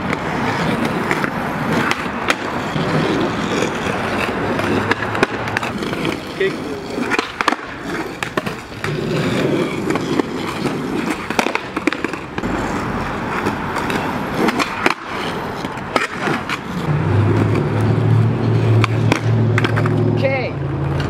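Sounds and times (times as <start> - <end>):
skateboard clacking on pavement: 0.0 - 17.9, 18.6 - 21.0
skateboard wheels rolling on concrete: 0.0 - 21.0.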